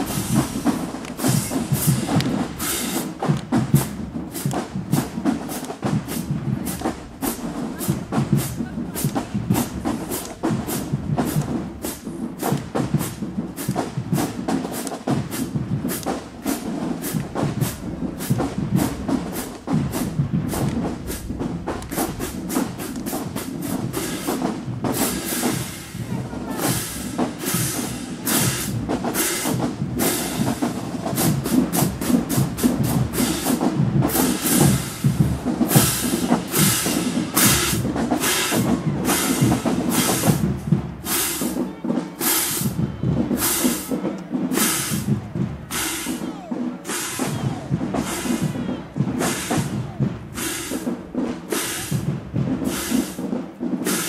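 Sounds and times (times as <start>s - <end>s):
drumline marching cadence: 0.0s - 54.0s.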